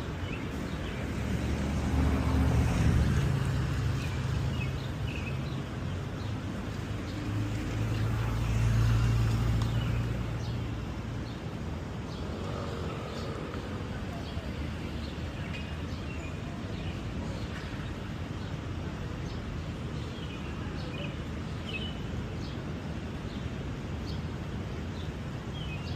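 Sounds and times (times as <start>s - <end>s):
passing vehicle engines: 0.0s - 25.5s.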